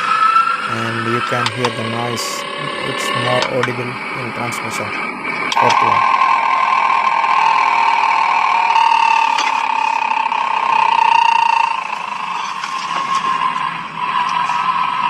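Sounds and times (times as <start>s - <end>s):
car transmission whine: 0.0s - 15.0s.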